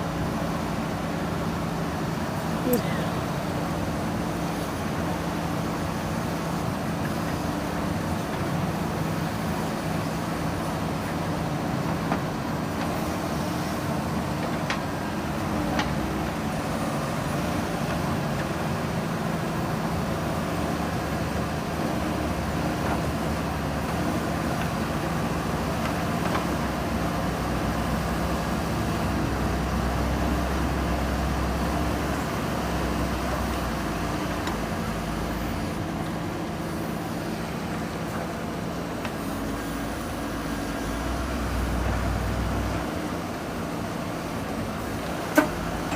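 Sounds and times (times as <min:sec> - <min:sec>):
diesel engine running: 0:00.0 - 0:45.9
backhoe digging soil: 0:05.7 - 0:45.9.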